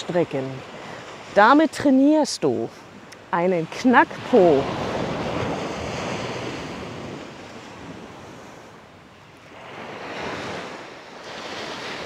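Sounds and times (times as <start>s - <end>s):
waves washing up beach: 0.0s - 12.0s.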